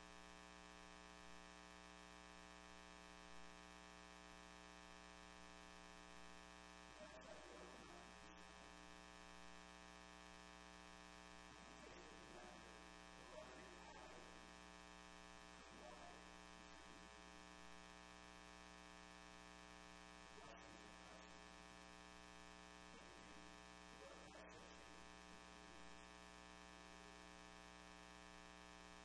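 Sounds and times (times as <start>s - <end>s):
electrical buzz-hum: 0.0s - 29.0s.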